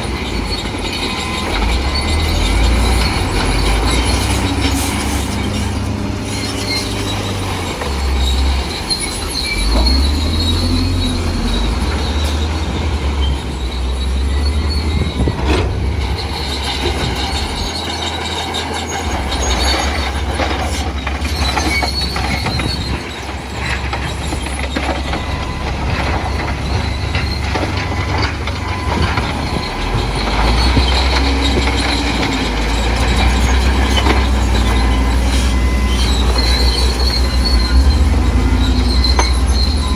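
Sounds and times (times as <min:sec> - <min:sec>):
bulldozer diesel engine: 0:00.0 - 0:39.9
steel tracks clanking: 0:00.0 - 0:39.9
track squealing: 0:00.0 - 0:39.9.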